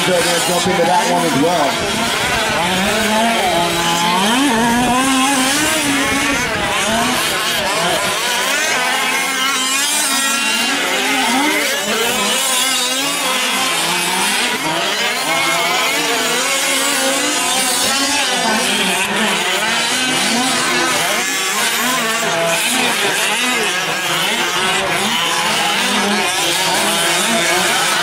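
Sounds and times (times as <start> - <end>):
rc truck engines racing: 0.0 - 28.0.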